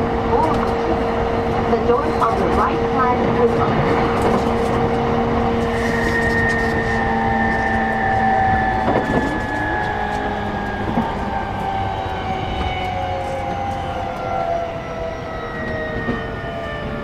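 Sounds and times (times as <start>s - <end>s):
traction motor whine: 0.0s - 17.0s
train car rumble: 0.0s - 17.0s.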